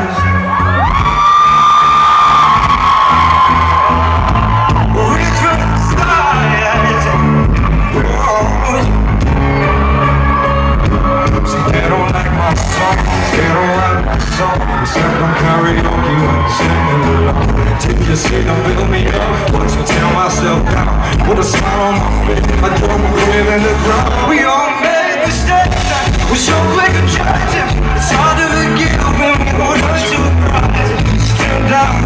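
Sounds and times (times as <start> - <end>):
male lead vocal: 0.0 - 1.5, 2.1 - 32.0
heavy drum beat: 0.0 - 24.4, 25.2 - 32.0
live pop-rock band playing: 0.0 - 32.0.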